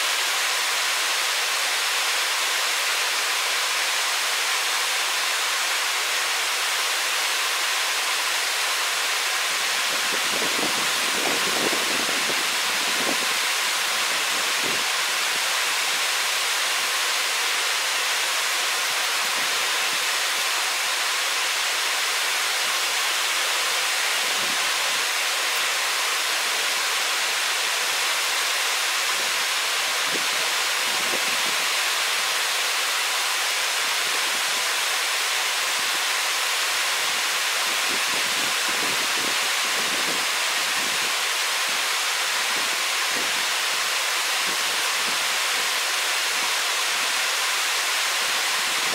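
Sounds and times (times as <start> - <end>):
rushing water: 0.0 - 48.9.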